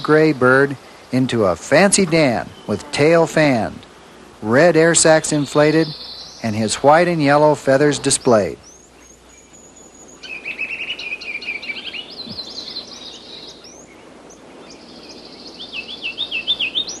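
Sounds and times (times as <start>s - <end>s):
faint outdoor hiss: 0.0s - 17.0s
songbird chirping: 0.0s - 17.0s.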